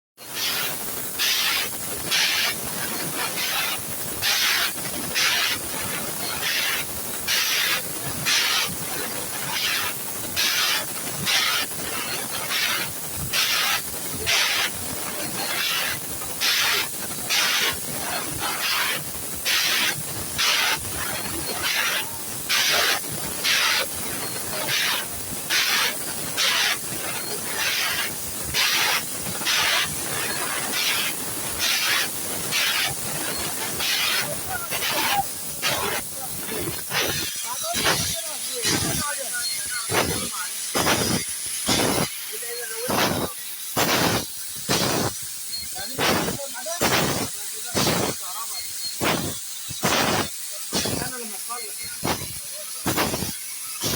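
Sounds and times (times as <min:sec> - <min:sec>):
machine air hisses: 0:00.2 - 0:53.9
steady high hiss: 0:00.3 - 0:53.9.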